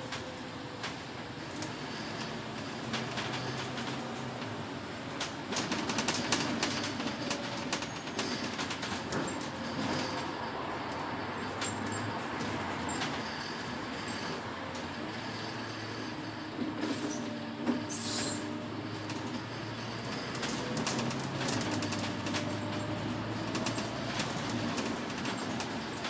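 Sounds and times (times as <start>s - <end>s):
bus engine and road noise: 0.0s - 26.0s
bus fittings rattling and clicking: 0.1s - 15.0s, 16.1s - 26.0s.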